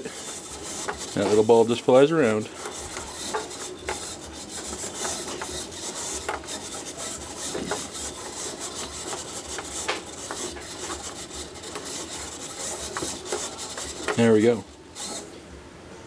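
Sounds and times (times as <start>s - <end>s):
marble rolling on wood: 0.0s - 14.7s.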